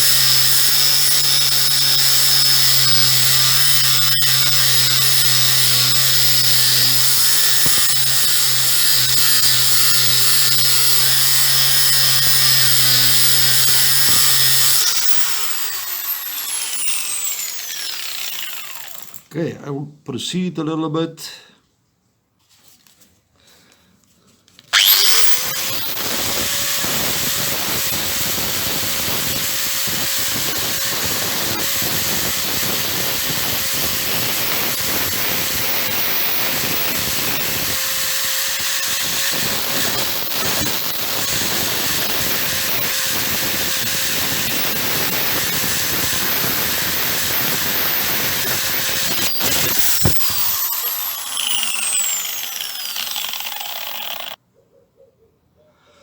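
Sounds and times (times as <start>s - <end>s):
power tool whining on metal: 0.0s - 19.3s, 24.7s - 54.4s.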